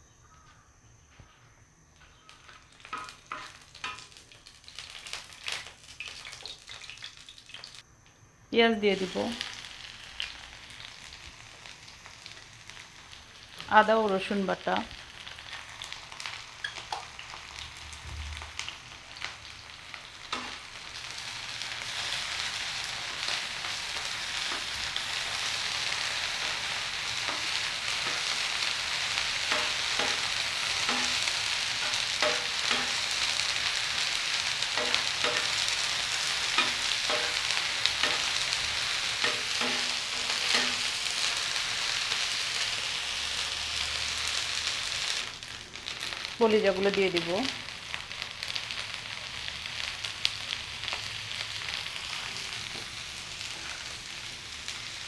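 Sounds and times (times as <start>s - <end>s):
onions sizzling in oil: 1.8s - 55.0s.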